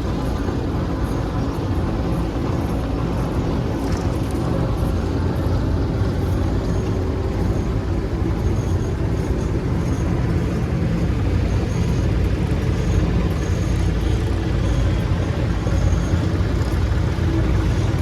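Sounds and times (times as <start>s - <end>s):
diesel farm machinery engine running: 0.0s - 18.0s.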